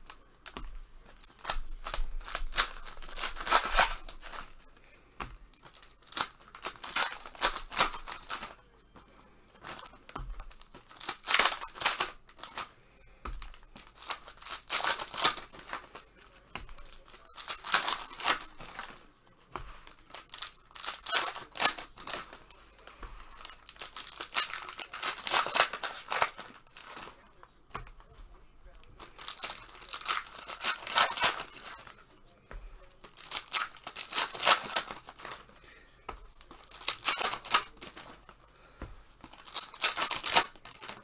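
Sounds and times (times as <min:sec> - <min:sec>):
card pack wrappers tearing and crinkling: 0:00.0 - 0:04.8, 0:05.4 - 0:08.6, 0:09.6 - 0:28.2, 0:28.8 - 0:32.0, 0:32.9 - 0:35.6, 0:36.3 - 0:38.4, 0:39.1 - 0:41.0.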